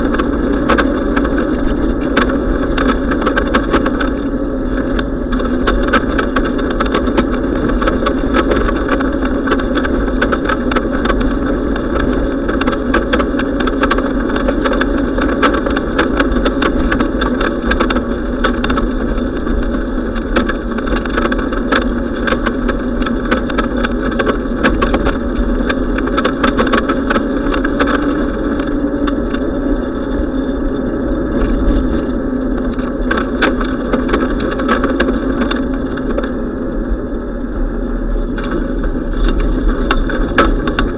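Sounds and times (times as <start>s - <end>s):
small clicks and rattles: 0.0s - 37.5s, 38.1s - 40.9s
road noise: 0.0s - 40.9s
wind on microphone: 0.0s - 40.9s.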